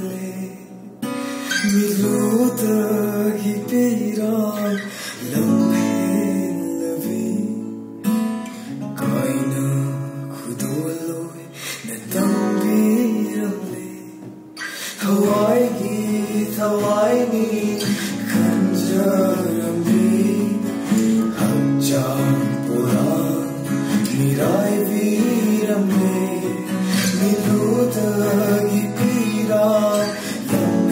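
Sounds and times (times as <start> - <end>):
man singing slow song: 0.0 - 7.9, 8.5 - 30.9
acoustic guitars strummed and picked: 0.0 - 30.9.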